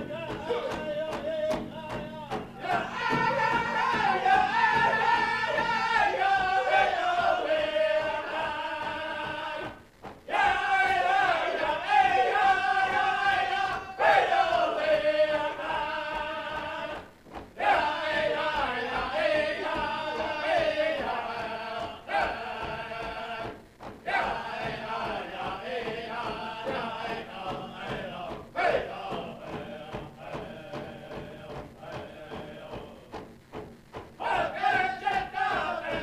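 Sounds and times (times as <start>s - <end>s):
men singing with drum: 0.0s - 36.0s.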